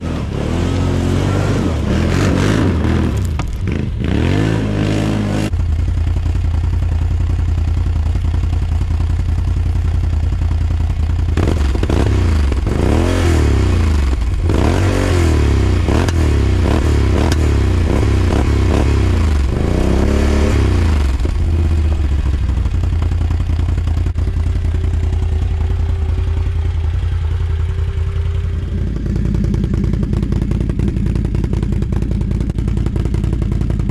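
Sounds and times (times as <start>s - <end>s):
atv engine idling and revving: 0.0s - 33.9s.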